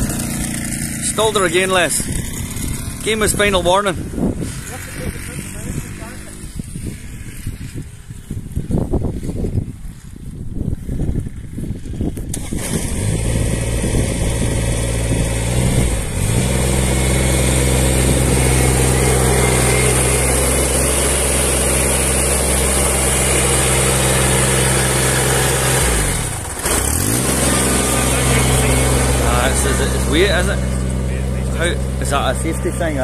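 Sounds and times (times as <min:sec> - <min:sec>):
diesel mower engine running: 0:00.0 - 0:08.6, 0:12.2 - 0:33.0.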